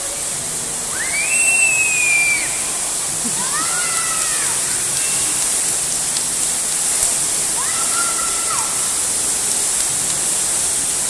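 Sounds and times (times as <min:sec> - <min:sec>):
fountain water rushing and splashing: 0:00.0 - 0:11.0.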